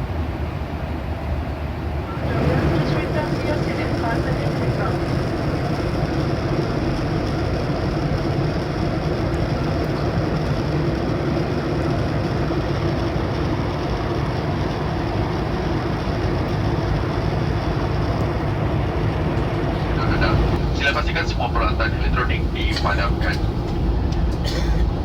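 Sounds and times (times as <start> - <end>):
airliner cabin engine noise: 0.0 - 25.0.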